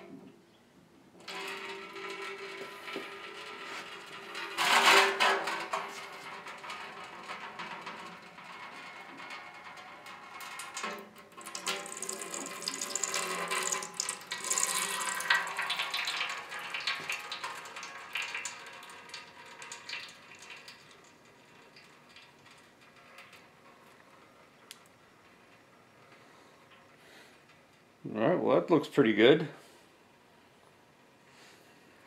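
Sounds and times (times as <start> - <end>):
metal clicking scraping and rattling: 1.2 - 27.9.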